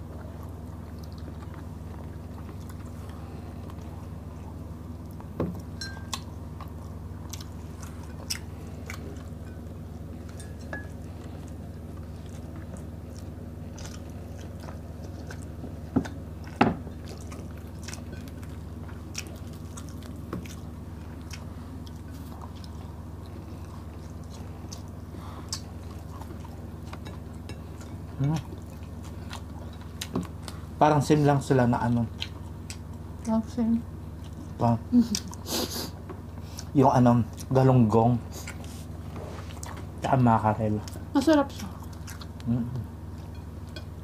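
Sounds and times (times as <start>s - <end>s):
chewing: 0.0s - 30.7s, 32.0s - 33.4s, 34.2s - 35.4s, 38.3s - 40.0s, 40.8s - 43.9s.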